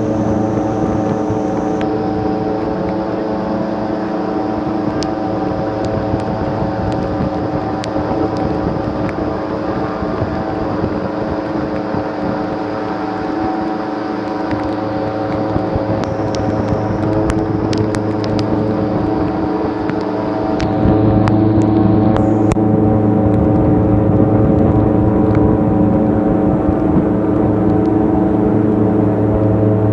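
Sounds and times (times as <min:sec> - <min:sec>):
airboat engine and propeller: 0:00.0 - 0:29.9.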